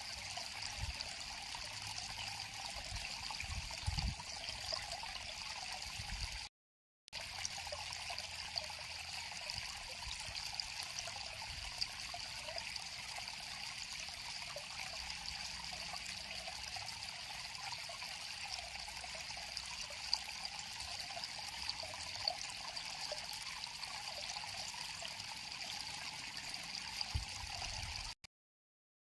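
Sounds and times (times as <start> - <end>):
river water flowing: 0.0 - 6.1, 7.2 - 28.1.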